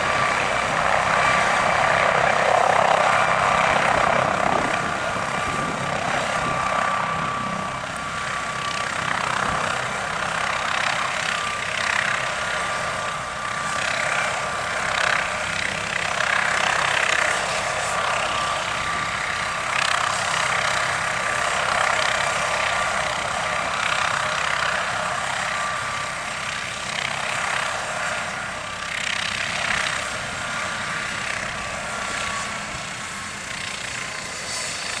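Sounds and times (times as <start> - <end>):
helicopter rotor and turbine: 0.0 - 35.0.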